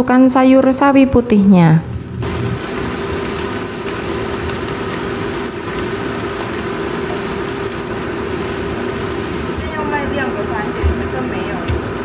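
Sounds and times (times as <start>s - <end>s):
low hum: 0.8s - 12.0s
cabbage sizzling in a wok: 2.0s - 12.0s.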